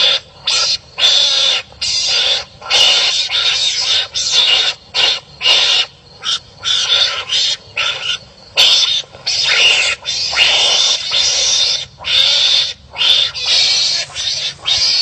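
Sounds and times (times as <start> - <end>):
animals' harsh raspy cries: 0.0 - 15.0.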